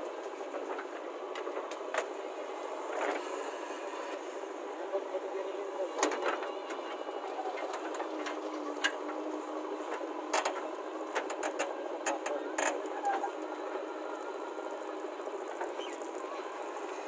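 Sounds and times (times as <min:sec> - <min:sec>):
diesel engine under hydraulic load: 0:00.0 - 0:17.0.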